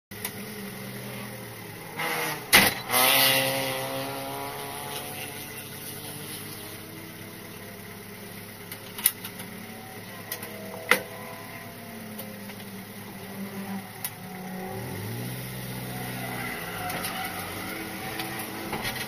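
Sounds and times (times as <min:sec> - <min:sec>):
race car engine revving: 0:00.2 - 0:19.0.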